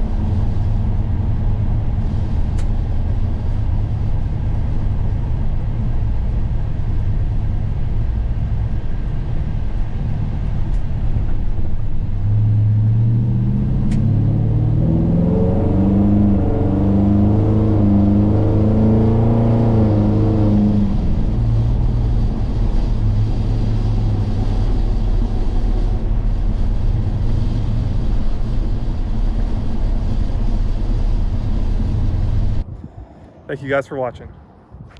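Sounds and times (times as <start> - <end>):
truck engine accelerating and shifting: 0.0 - 34.8.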